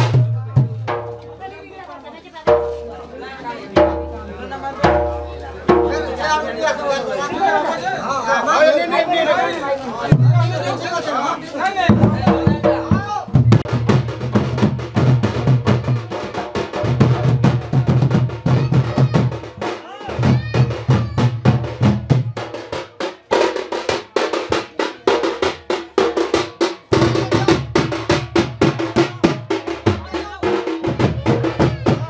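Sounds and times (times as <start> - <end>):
folk drums struck with sticks: 0.0 - 6.8, 10.1 - 10.8, 11.8 - 32.0.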